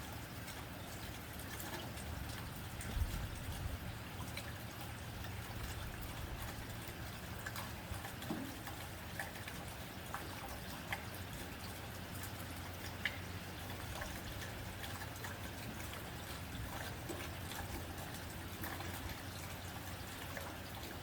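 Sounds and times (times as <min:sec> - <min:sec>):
rain on a tin roof: 0:00.0 - 0:21.0.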